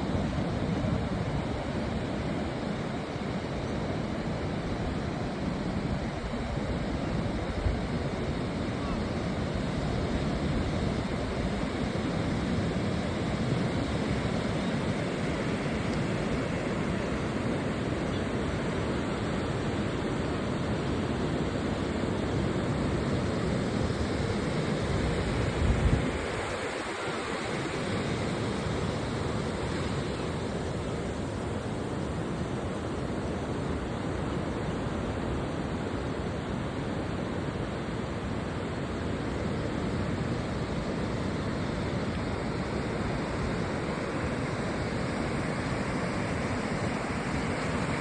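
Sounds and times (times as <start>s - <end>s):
ocean surf on a beach: 0.0s - 48.0s.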